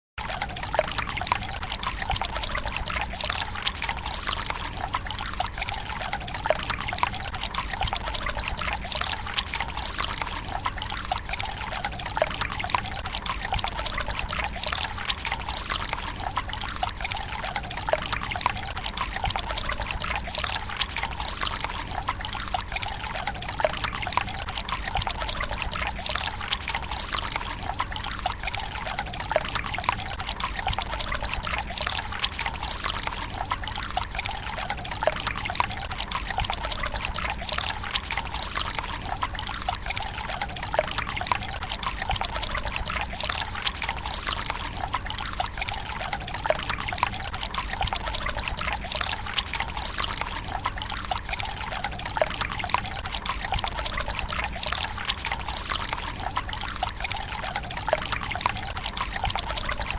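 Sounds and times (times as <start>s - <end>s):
water drips and plops: 0.2s - 59.9s
water trickling into stone basin: 0.2s - 59.9s.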